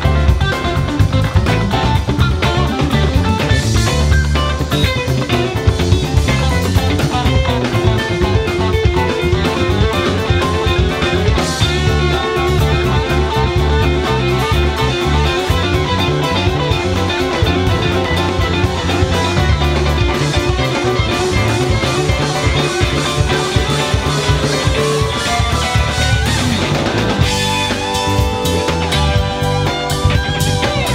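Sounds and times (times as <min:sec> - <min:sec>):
bass guitar: 0:00.0 - 0:30.9
drum kit: 0:00.0 - 0:30.9
electric guitars: 0:00.0 - 0:30.9
keyboards: 0:00.0 - 0:30.9.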